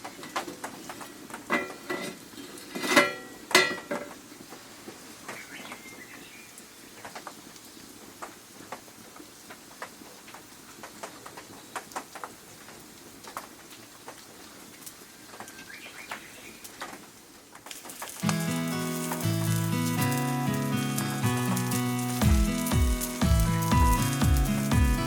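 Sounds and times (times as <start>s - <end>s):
soft steady hiss: 0.0s - 25.0s.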